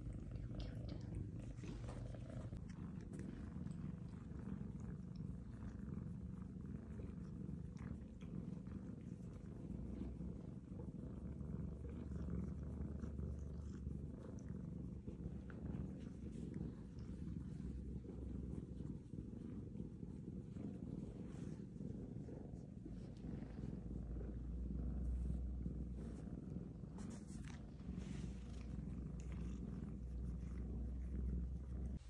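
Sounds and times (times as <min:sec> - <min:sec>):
cats purring: 0:00.0 - 0:32.0.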